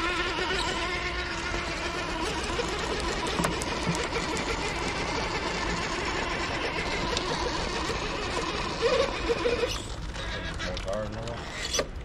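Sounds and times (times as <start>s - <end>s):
electric motor whining: 0.0s - 11.9s.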